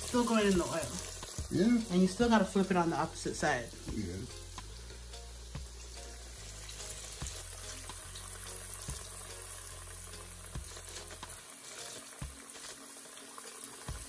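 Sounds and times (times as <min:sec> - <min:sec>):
meat sizzling in frying pan: 0:00.0 - 0:14.0
oil popping and crackling: 0:00.0 - 0:14.0.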